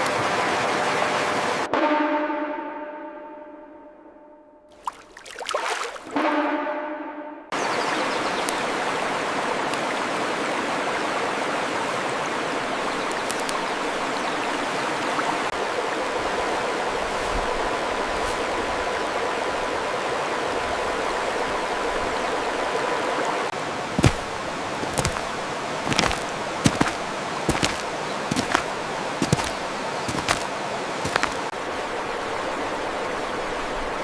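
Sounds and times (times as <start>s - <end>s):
stream water rushing: 0.0s - 1.7s, 4.7s - 6.2s, 7.6s - 34.0s.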